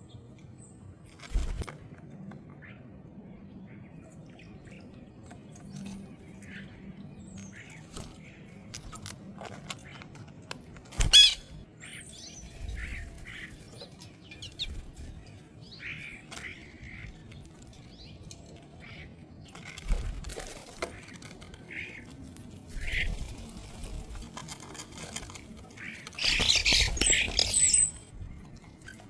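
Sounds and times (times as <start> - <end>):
small birds chirping: 2.5 - 29.0.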